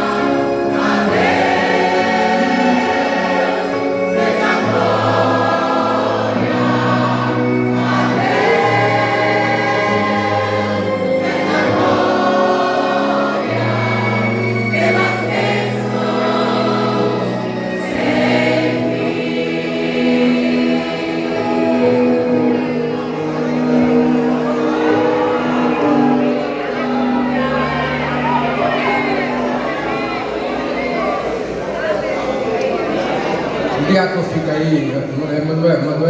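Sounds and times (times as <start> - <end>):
vocal group singing a hymn: 0.0 - 34.1.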